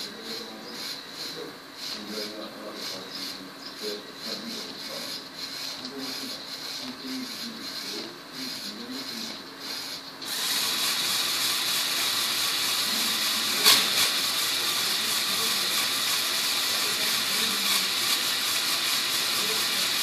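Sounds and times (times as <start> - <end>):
toy car motors whirring: 0.0 - 20.0.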